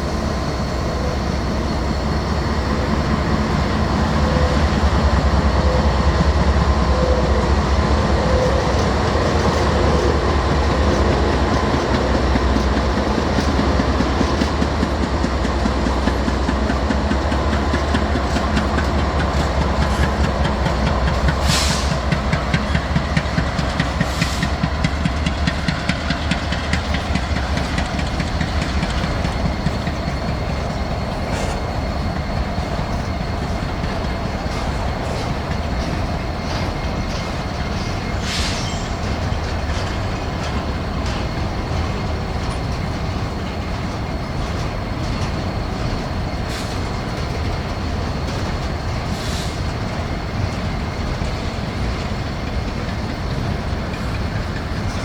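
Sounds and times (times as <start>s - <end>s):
train wheels clattering over rail joints: 0.0s - 55.0s.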